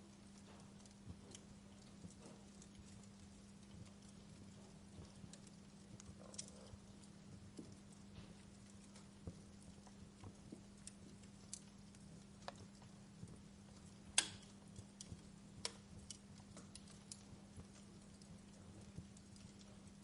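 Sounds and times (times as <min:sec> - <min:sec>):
faint low hum: 0:00.0 - 0:20.0
wood fire crackling: 0:00.0 - 0:20.0.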